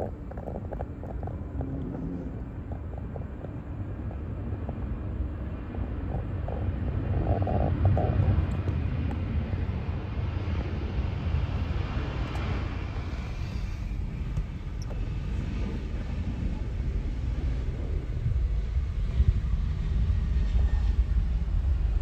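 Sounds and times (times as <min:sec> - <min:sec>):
jet engine rumble and hiss: 0:00.0 - 0:22.0.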